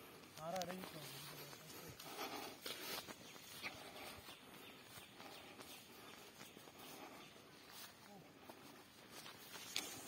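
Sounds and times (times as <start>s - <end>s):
footsteps on grass: 0.0s - 10.0s
leaves and branches rustling: 0.0s - 10.0s.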